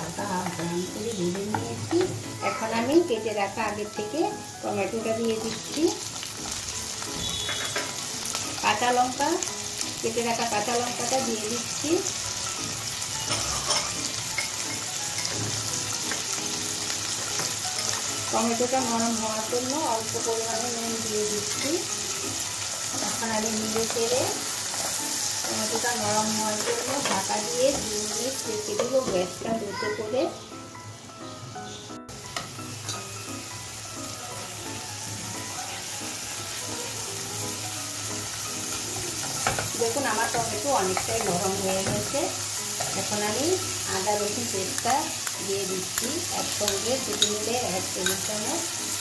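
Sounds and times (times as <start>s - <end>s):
vegetables sizzling in hot oil: 0.0s - 49.0s.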